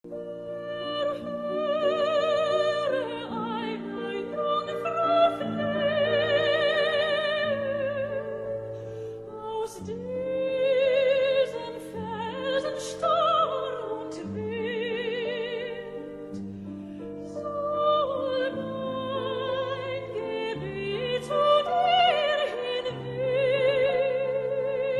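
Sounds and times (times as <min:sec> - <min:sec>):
classical accompaniment: 0:00.0 - 0:24.9
operatic singing with vibrato: 0:00.1 - 0:08.7, 0:09.3 - 0:16.2, 0:17.2 - 0:24.9.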